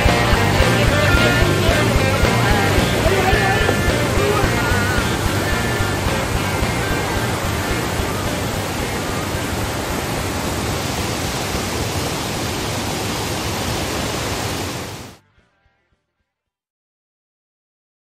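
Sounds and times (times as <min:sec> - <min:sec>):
whitewater rapids roaring: 0:00.0 - 0:15.2.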